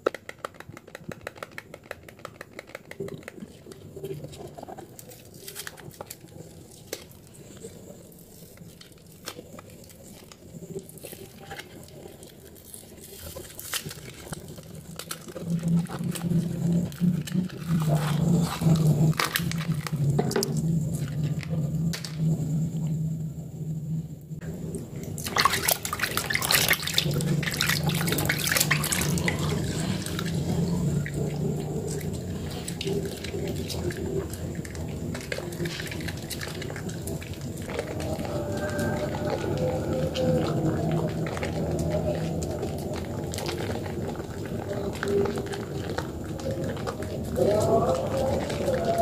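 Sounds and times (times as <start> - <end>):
paper wrapper crinkling: 1.5 - 22.2, 24.8 - 49.0
low steady hum: 3.6 - 49.0.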